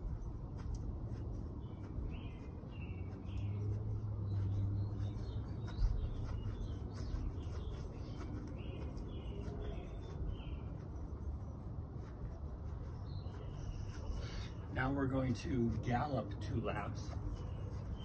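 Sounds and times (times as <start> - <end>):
outdoor background hum: 0.0 - 18.0
small birds chirping: 0.0 - 18.0.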